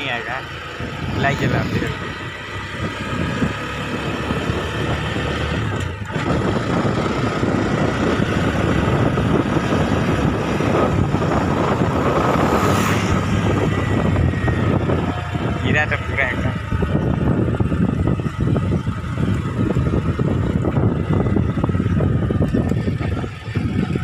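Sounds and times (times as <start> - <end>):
motorcycle engine running: 0.0 - 24.0
wind rush on microphone: 0.7 - 24.0.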